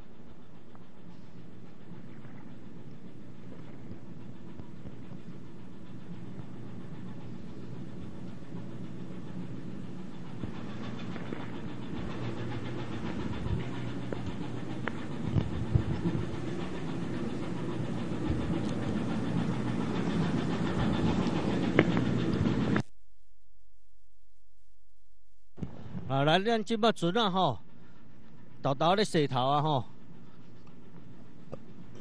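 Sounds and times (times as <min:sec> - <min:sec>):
ship engine humming: 0:00.0 - 0:22.8, 0:25.3 - 0:32.0
wind: 0:00.0 - 0:22.9, 0:25.6 - 0:32.0.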